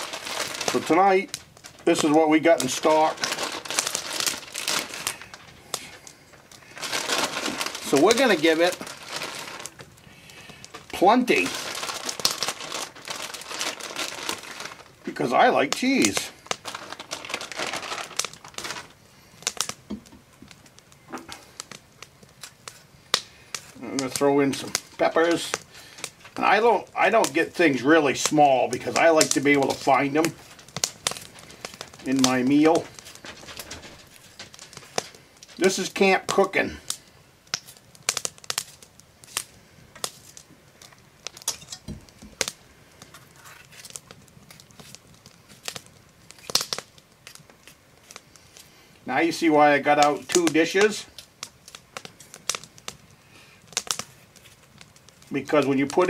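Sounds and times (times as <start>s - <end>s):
plastic bag crinkling: 0.0s - 20.7s, 23.6s - 36.9s, 37.6s - 48.7s
pepper snapping and crackling: 0.0s - 48.8s, 49.4s - 56.0s.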